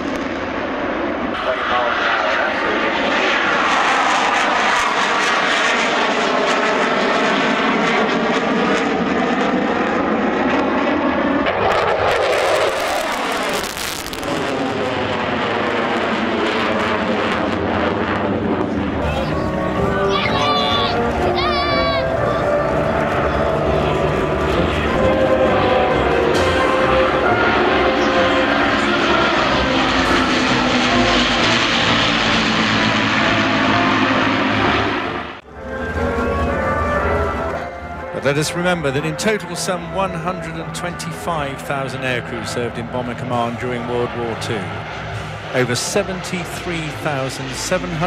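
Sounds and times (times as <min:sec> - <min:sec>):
jet engines in afterburner: 0:00.0 - 0:48.0.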